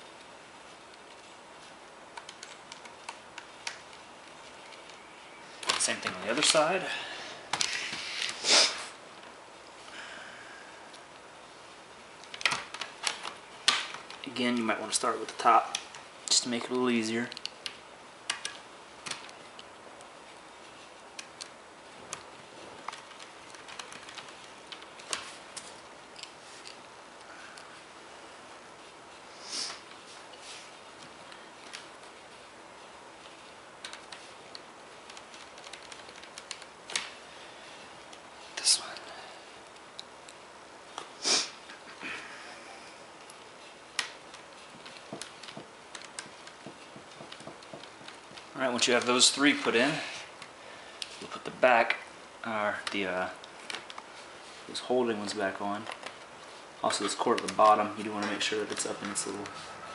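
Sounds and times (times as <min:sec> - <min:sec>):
soft rustle: 0:00.0 - 0:17.8, 0:18.5 - 0:59.9.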